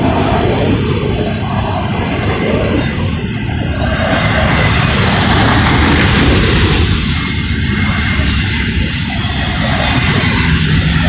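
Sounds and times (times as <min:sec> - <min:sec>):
hissing rush: 0:00.0 - 0:11.0
steel wheels rumbling on rail: 0:00.0 - 0:11.0.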